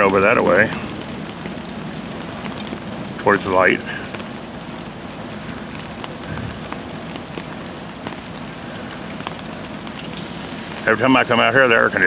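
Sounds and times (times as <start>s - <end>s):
raindrops ticking on umbrella: 0.0s - 12.0s
steady rain: 0.0s - 12.0s.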